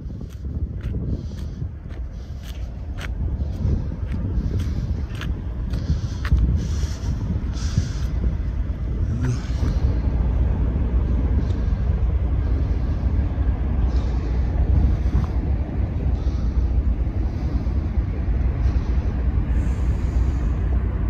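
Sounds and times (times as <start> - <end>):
hissing wind gusts: 0.0 - 21.0
wind buffeting microphone: 0.0 - 21.0.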